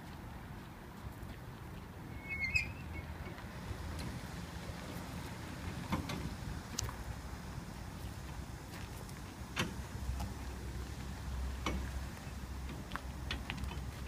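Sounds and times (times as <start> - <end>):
trailer wheels clicking and scuffing: 0.0 - 14.0.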